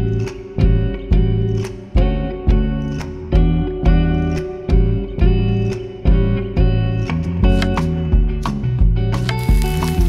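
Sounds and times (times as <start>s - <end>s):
plucked guitar music with bass: 0.0s - 10.0s.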